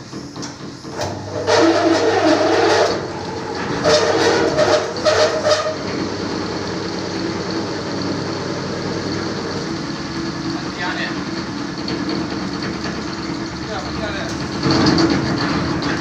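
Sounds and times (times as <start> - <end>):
carpet-washing machine motor hum: 0.0 - 16.0.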